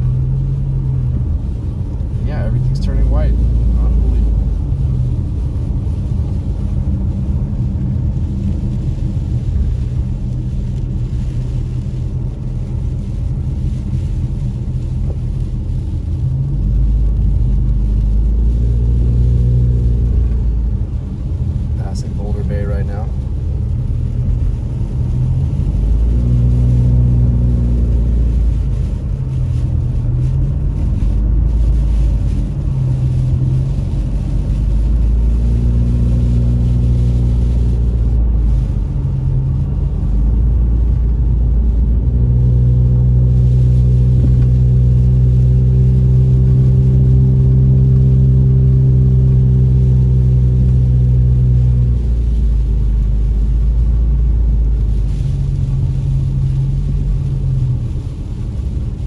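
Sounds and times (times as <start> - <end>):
car cabin road rumble: 0.0 - 59.0
deep engine hum: 0.0 - 59.0.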